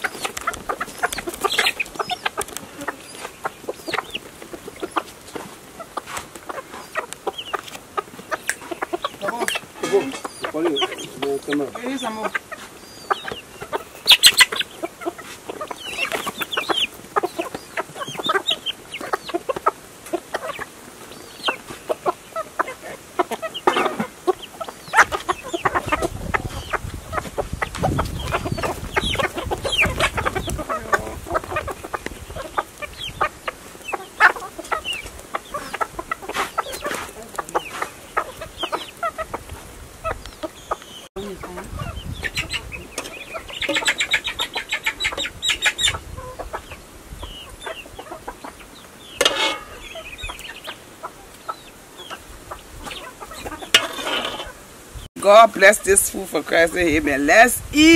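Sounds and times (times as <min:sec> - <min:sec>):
hens and roosters clucking: 0:00.0 - 0:57.9.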